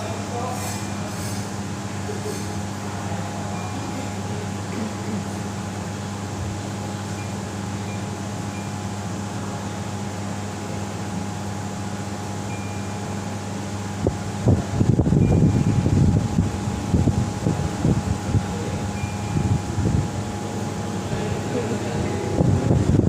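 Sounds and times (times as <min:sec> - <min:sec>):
air conditioner fan rush: 0:00.0 - 0:23.0.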